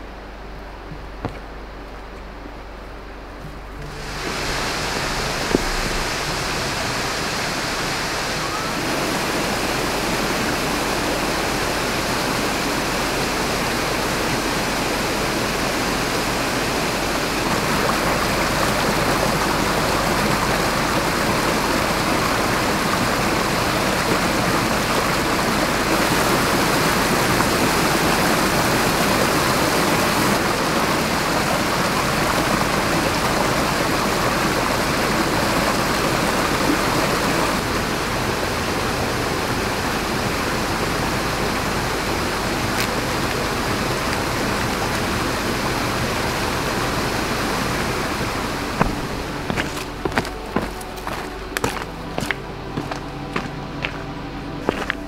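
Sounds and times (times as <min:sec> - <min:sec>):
creek water rushing over boulders: 0:00.0 - 0:55.0.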